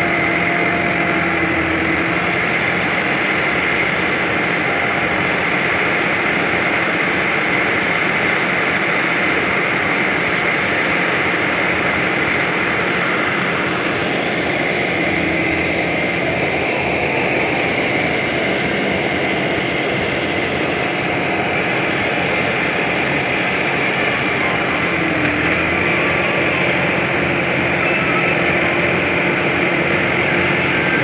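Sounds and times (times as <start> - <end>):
harvester diesel engine running: 0.0 - 31.0.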